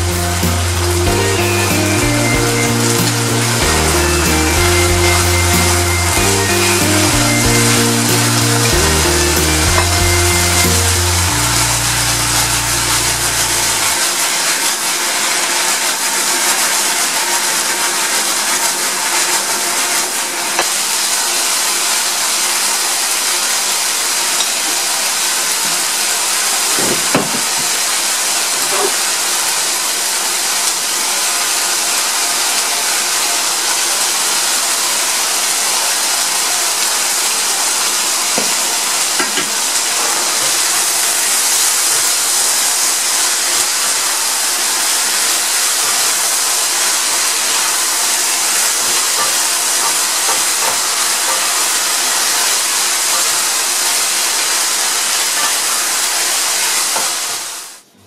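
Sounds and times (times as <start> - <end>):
stir-fry sizzling in a pan: 0.0 - 57.9.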